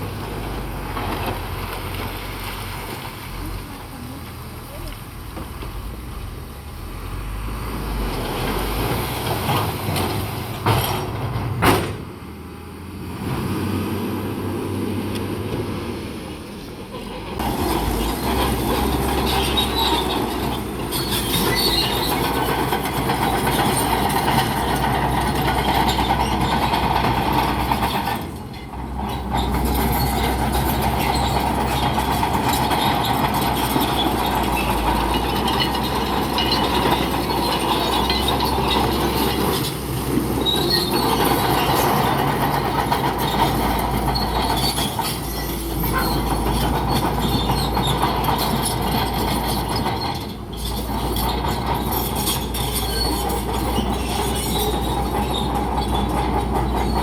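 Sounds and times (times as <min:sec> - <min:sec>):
diesel engine under load: 0:00.0 - 0:57.0
steel tracks clanking: 0:07.8 - 0:12.3, 0:15.4 - 0:57.0.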